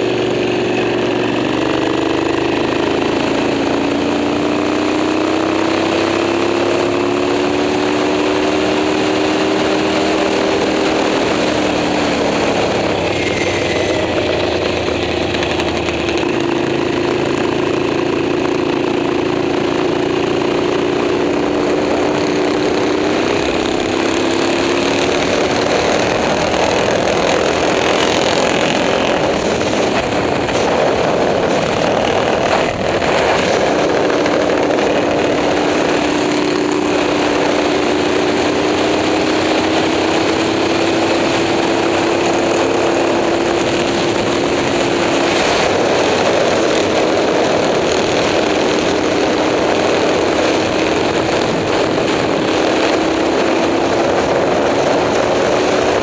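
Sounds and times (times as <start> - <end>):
motorcycle engine running hard: 0.0 - 56.0
steady rush of noise: 0.0 - 56.0.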